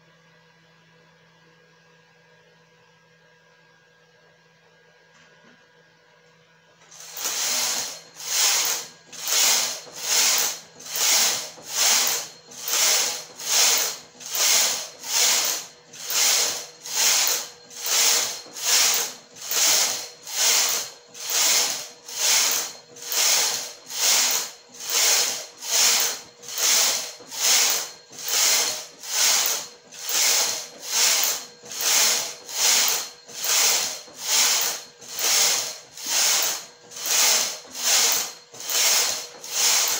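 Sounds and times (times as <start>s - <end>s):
knitting machine carriage swishing: 7.0s - 39.9s.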